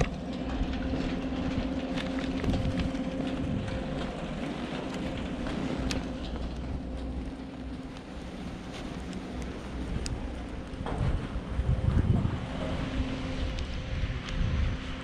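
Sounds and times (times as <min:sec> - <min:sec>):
chairlift machinery drone: 0:00.0 - 0:15.0.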